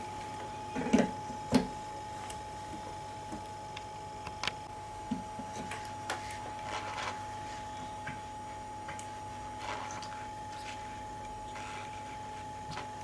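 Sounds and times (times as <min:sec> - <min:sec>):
electrical hum with high whine: 0:00.0 - 0:13.0.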